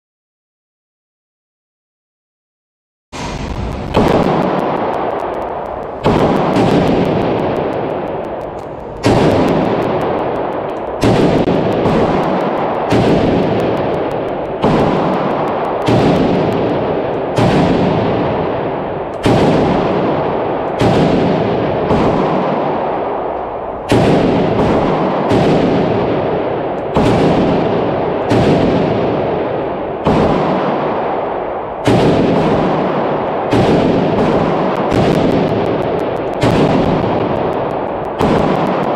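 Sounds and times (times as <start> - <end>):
rifle shots echoing indoors: 3.2 - 38.9.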